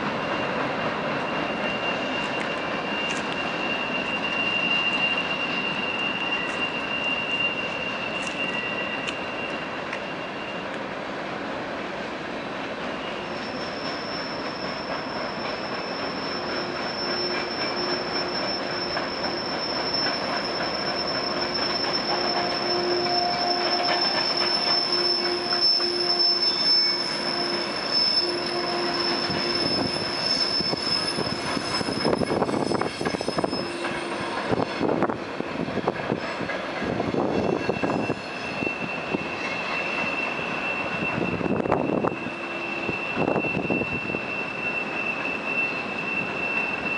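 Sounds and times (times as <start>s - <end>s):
train wheels squealing: 0.0s - 11.1s, 11.8s - 46.9s
train cars rumbling and clattering: 0.0s - 46.9s.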